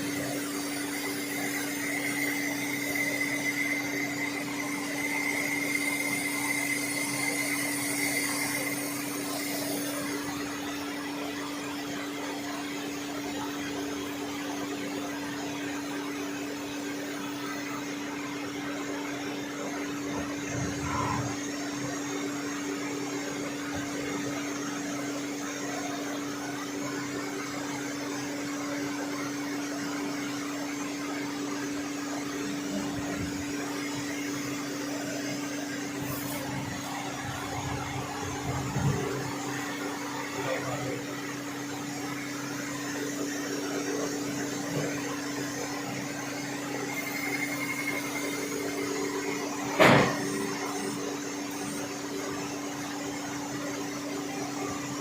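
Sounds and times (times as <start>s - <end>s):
lathe machine hum: 0.0s - 55.0s.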